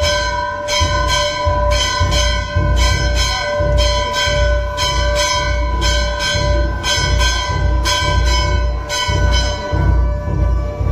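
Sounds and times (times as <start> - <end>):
deep low beat: 0.0 - 10.9
temple bell ringing: 0.0 - 10.9.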